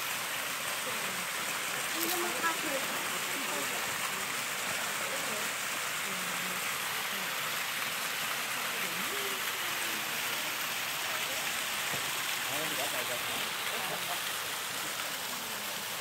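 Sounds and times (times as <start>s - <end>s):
waterfall splashing into pool: 0.0s - 16.0s.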